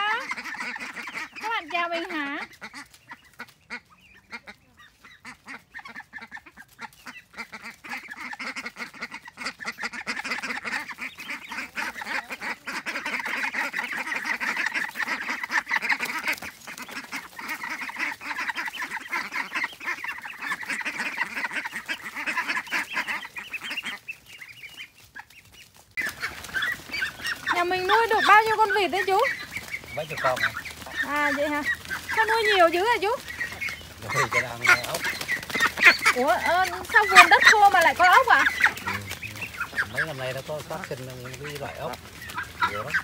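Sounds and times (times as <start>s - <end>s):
young ducks quacking: 0.0s - 43.0s.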